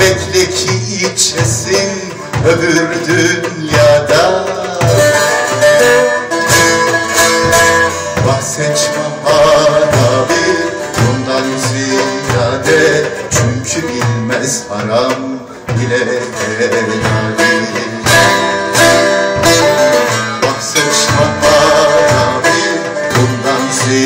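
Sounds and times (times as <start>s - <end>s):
hand drum beating rhythm: 0.0s - 24.0s
plucked lute folk tune: 0.0s - 24.0s.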